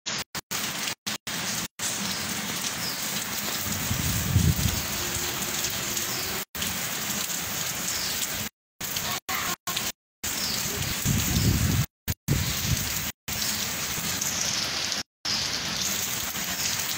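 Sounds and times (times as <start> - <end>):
steady rain falling: 0.1 - 16.9.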